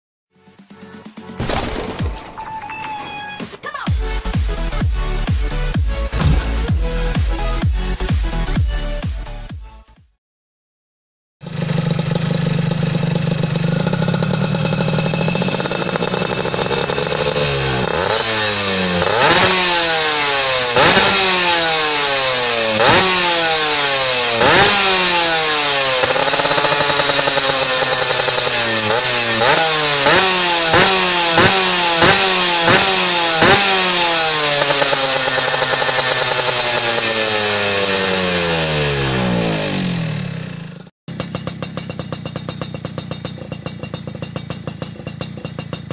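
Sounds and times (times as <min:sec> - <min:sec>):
two-stroke motorcycle engine revving: 0:03.9 - 0:09.5, 0:11.4 - 0:45.9.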